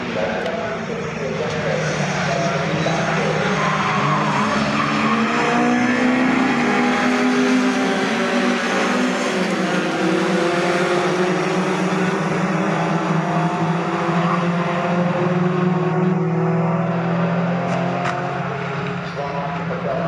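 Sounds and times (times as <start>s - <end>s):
racing truck engines passing: 0.0s - 20.0s.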